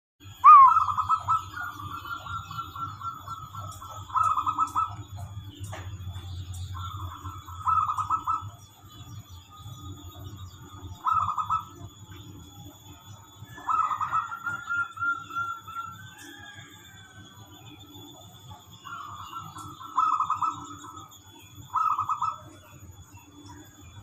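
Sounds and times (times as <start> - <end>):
dove cooing: 0.3 - 24.0.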